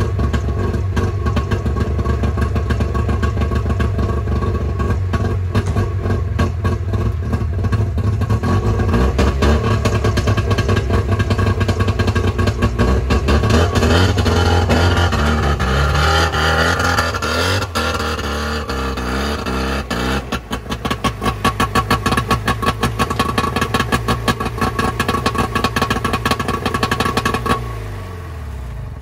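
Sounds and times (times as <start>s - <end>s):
two-stroke engine popping: 0.0s - 28.0s.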